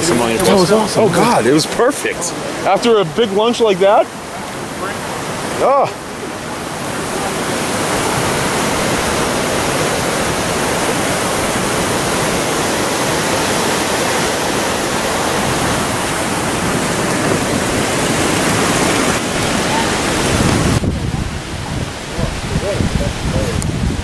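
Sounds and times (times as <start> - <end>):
river water rushing over stones: 0.0 - 24.0.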